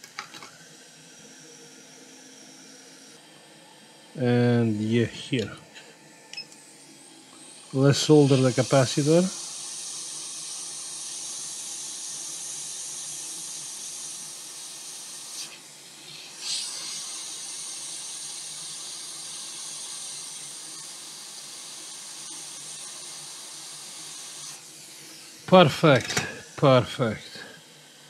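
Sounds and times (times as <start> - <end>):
hot-air station hissing: 0.0 - 28.0.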